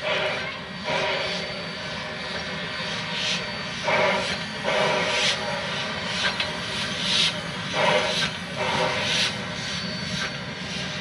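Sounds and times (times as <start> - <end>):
steam hissing: 0.0 - 11.0
steam locomotive chuffing: 0.0 - 11.0.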